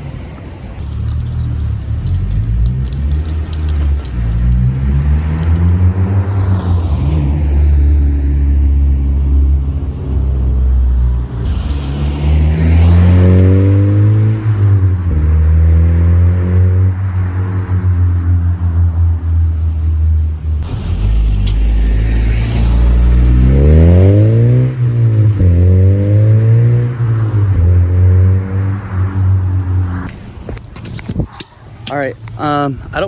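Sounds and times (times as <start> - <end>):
car engine accelerating: 0.8 - 30.1.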